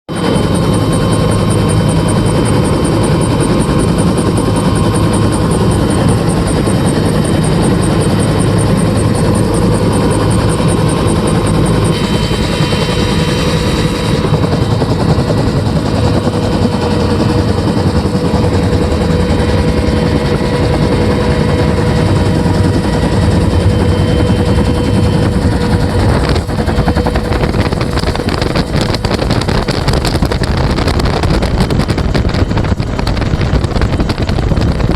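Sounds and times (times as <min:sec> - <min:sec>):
helicopter rotor beat: 0:00.1 - 0:34.9
helicopter turbine whine: 0:00.1 - 0:34.9.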